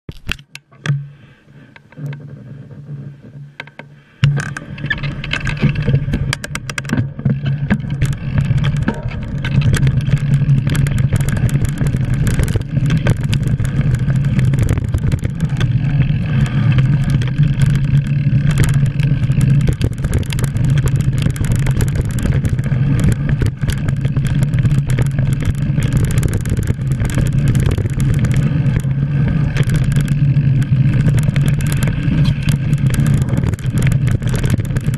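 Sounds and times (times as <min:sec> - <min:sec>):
bike clicking and rattling: 0:00.1 - 0:34.9
bike tyres rumbling on dirt: 0:01.1 - 0:34.9
rushing wind: 0:01.5 - 0:34.9.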